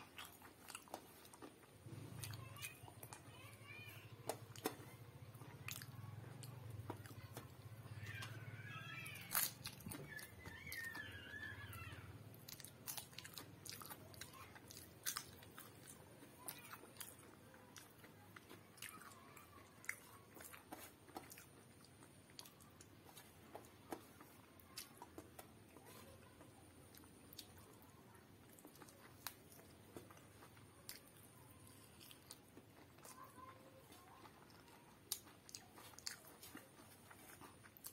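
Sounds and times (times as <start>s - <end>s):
person chewing food: 0.0s - 37.9s.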